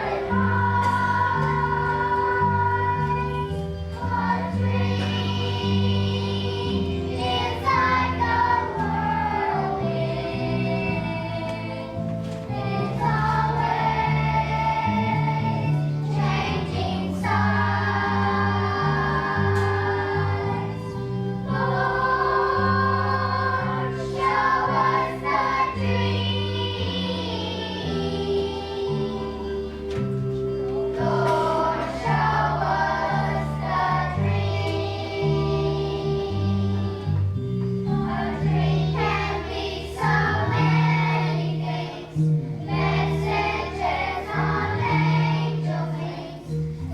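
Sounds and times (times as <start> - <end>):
children's choir singing: 0.0 - 46.9
instrumental accompaniment: 0.0 - 46.9.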